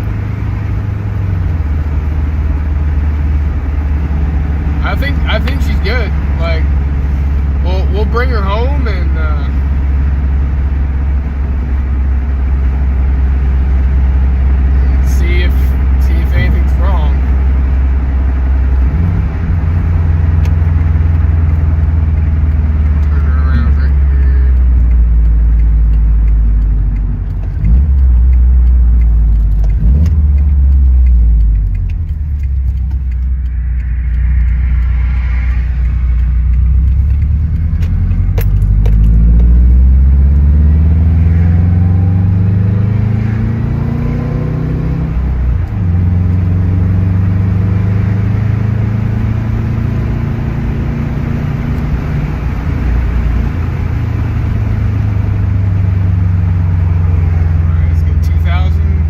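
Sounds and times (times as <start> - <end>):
car engine accelerating: 0.0 - 59.0
road noise inside car: 0.0 - 59.0.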